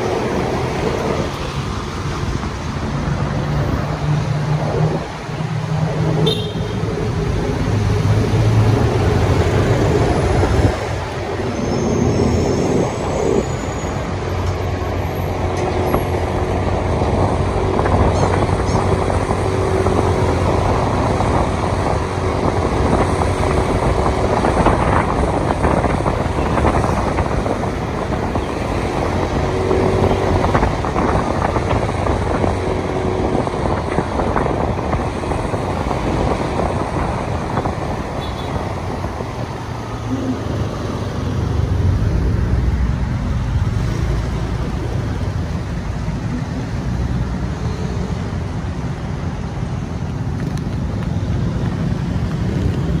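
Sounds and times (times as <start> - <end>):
city traffic: 0.0 - 53.0.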